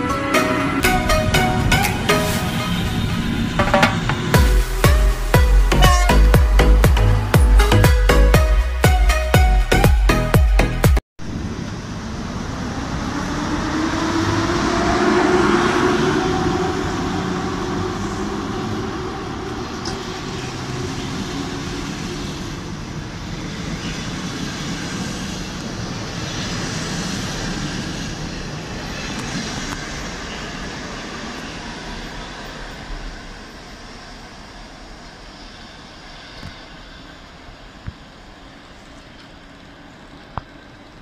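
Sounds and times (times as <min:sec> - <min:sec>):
electric locomotive whine: 0:00.0 - 0:09.3, 0:11.2 - 0:41.0.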